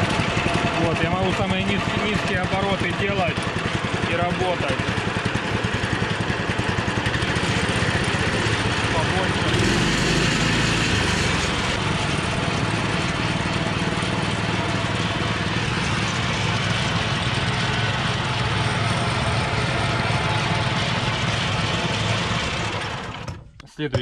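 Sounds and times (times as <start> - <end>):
small engine running: 0.0 - 23.5.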